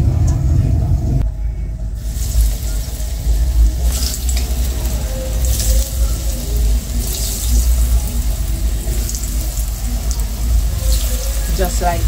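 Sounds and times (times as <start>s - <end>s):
steady low rumble: 0.0s - 12.0s
food sizzling in hot oil: 2.0s - 12.0s.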